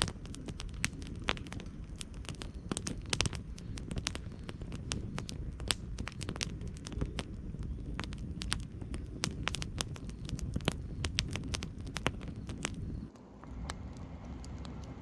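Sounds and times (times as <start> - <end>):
campfire crackling and popping: 0.0 - 15.0
low steady rumble: 0.0 - 15.0.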